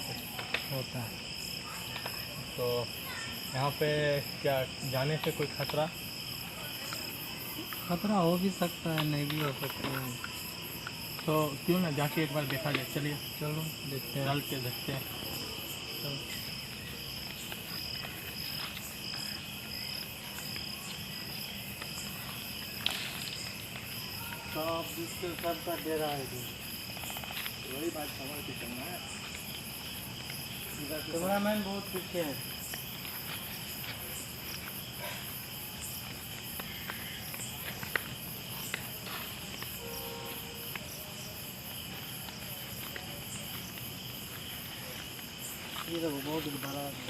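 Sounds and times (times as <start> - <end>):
crickets trilling: 0.0 - 47.0
pulsing insect chirp: 0.0 - 47.0.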